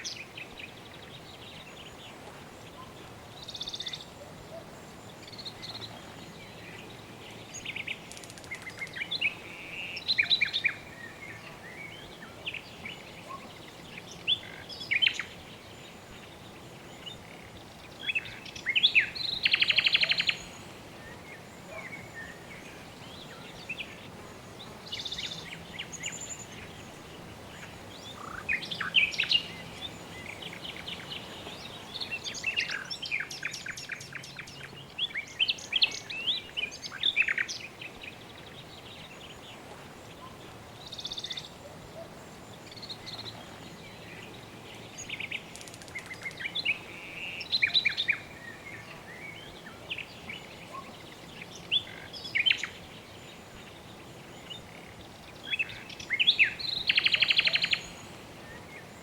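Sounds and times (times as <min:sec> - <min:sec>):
birds chirping: 0:00.0 - 0:59.0
soft background hiss: 0:00.0 - 0:59.0.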